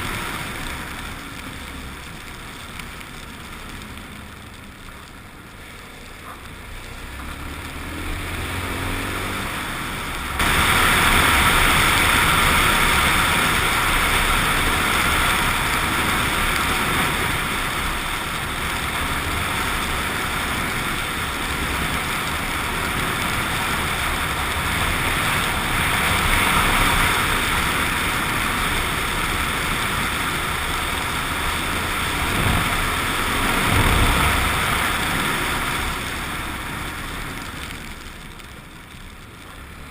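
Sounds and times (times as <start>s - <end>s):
wind and road noise: 0.0s - 39.9s
motorcycle engine: 3.9s - 37.4s.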